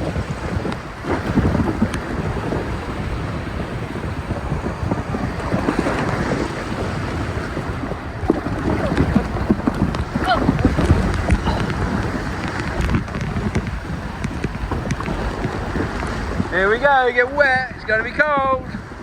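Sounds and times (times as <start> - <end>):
rushing splashing water: 0.0 - 19.0
wind buffeting microphone: 0.0 - 19.0.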